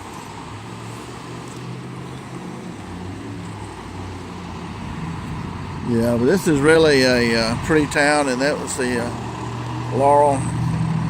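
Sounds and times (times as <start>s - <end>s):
road traffic noise: 0.0s - 11.0s
vehicle engine hum: 0.0s - 11.0s.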